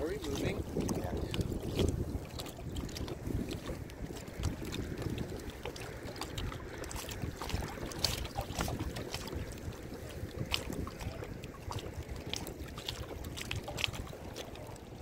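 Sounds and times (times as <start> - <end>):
small waves lapping against hull: 0.0 - 15.0
wind rumbling on microphone: 0.0 - 15.0.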